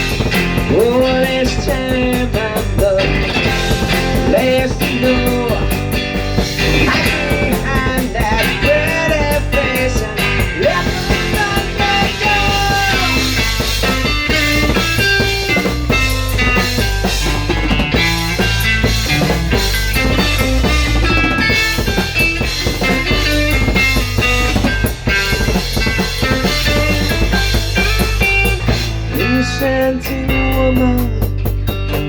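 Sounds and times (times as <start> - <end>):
instrumental rock music: 0.0 - 32.0.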